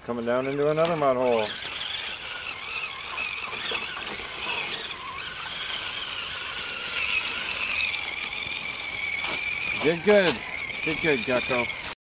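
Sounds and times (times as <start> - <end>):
electric motor whining: 0.1 - 12.0.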